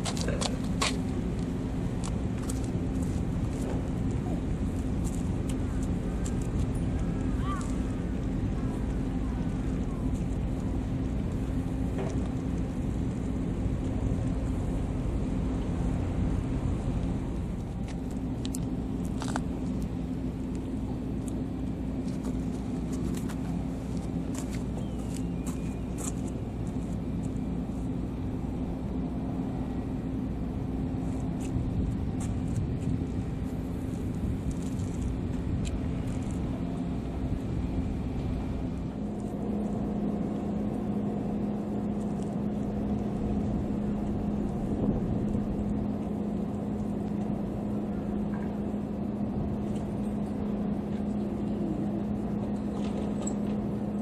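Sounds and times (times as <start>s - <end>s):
engine running with low rumble: 0.0s - 54.0s.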